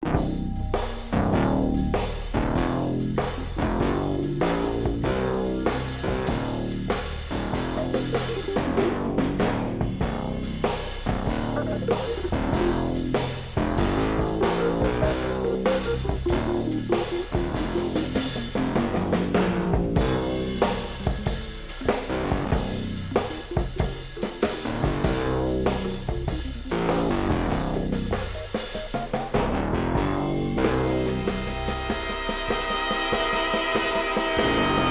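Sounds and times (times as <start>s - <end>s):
drum kit beat: 0.0s - 34.9s
rock music: 0.1s - 34.9s.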